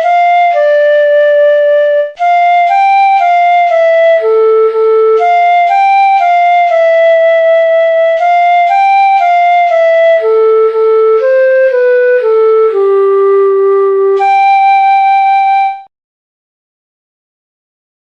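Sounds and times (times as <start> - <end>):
slow solo melody: 0.0 - 15.9.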